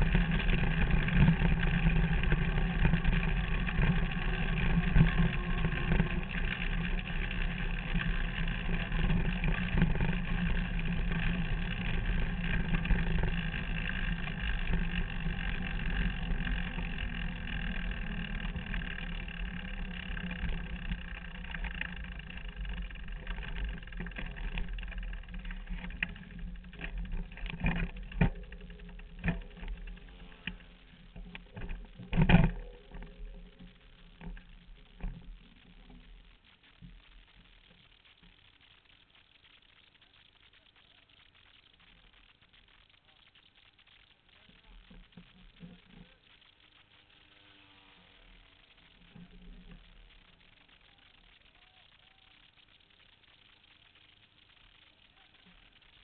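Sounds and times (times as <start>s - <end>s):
small motorbike engine running: 0.0s - 56.0s.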